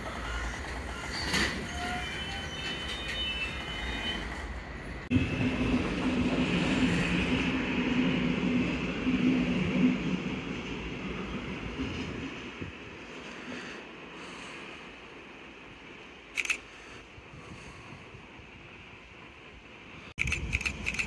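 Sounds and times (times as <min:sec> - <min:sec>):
electric train passing at speed: 0:00.0 - 0:21.0.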